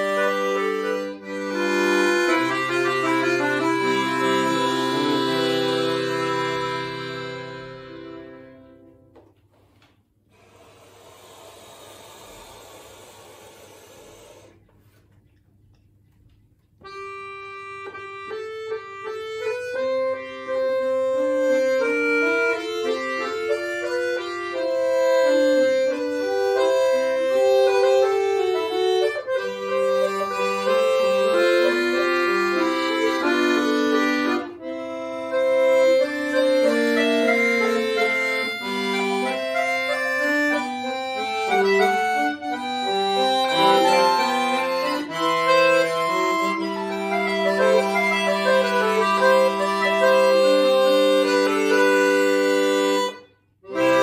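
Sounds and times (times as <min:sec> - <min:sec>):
button accordion playing: 0:00.0 - 0:09.3, 0:16.8 - 0:54.0.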